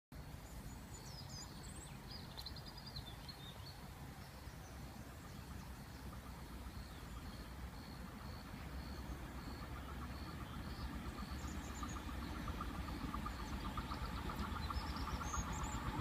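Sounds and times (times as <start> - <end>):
low steady rumble: 0.2 - 16.0
small birds chirping: 0.3 - 16.0.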